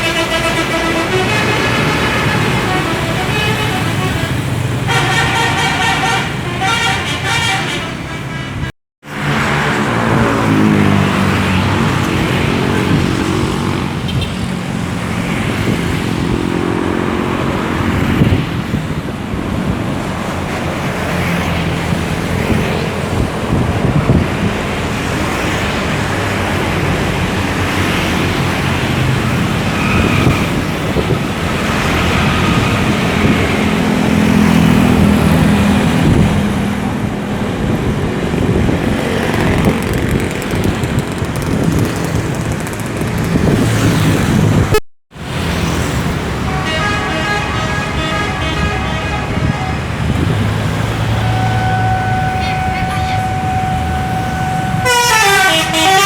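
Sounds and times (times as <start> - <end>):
bus engines accelerating: 0.0 - 56.0
road traffic noise: 0.0 - 56.0.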